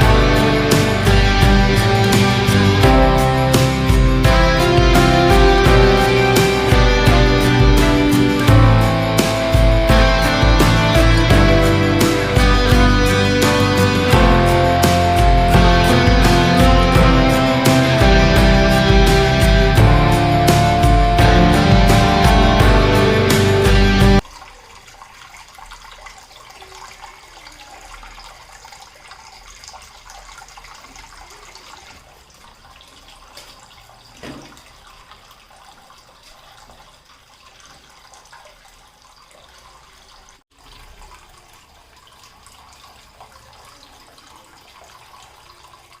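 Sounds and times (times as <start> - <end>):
fountain water trickling and splashing: 0.0 - 18.1, 24.2 - 46.0.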